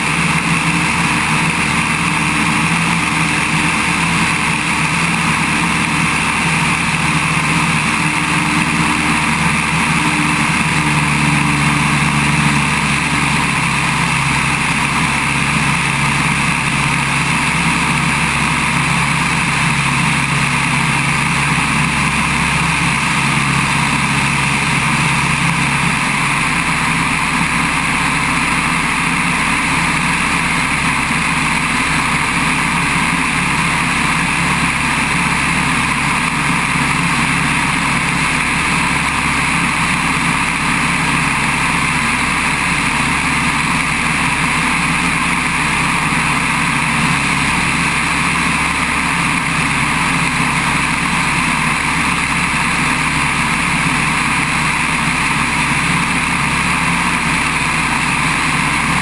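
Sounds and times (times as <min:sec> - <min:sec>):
biplane engine droning: 0:00.0 - 0:59.0.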